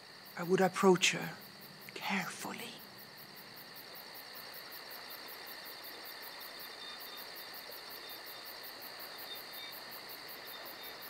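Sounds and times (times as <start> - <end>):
insect chirping trill: 0.0 - 11.0.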